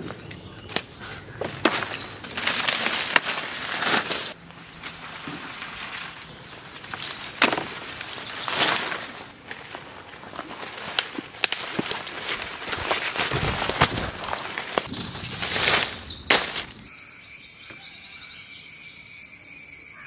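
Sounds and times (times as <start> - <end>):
leafy plants rustling: 0.0 - 16.9.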